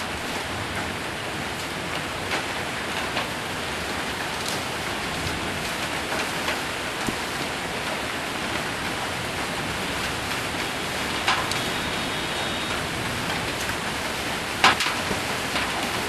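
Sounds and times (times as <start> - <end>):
hail drumming on metal roof: 0.0 - 16.0
heavy rain: 0.0 - 16.0.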